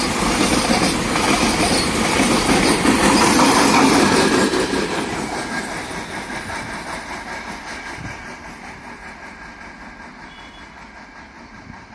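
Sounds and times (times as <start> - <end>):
freight train running past: 0.0 - 11.9.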